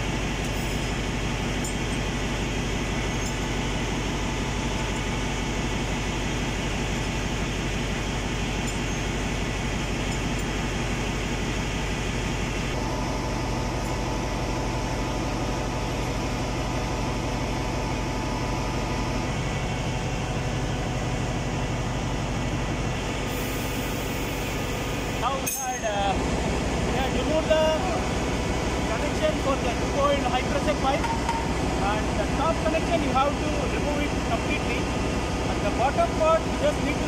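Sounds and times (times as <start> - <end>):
engine room machinery drone: 0.0 - 37.0.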